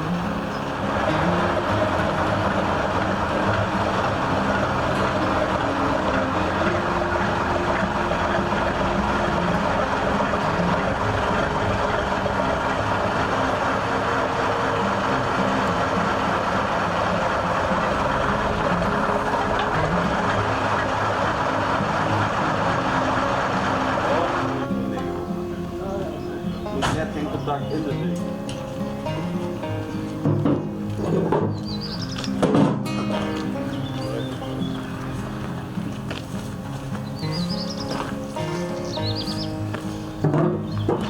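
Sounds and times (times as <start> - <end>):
road noise: 0.0 - 41.0
vehicle engine running: 0.0 - 41.0.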